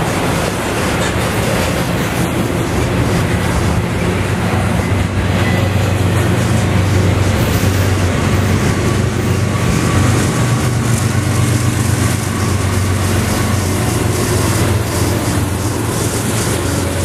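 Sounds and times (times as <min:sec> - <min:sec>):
diesel locomotives humming: 0:00.0 - 0:17.0
train wheels on rail: 0:00.0 - 0:17.0.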